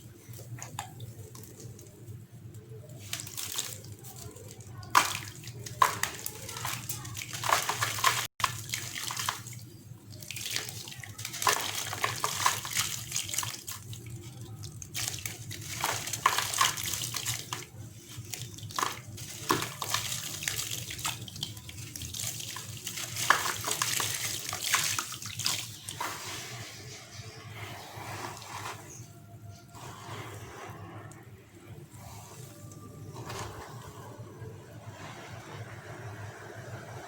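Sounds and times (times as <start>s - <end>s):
cement lumps fizzing in water: 0.0s - 37.0s.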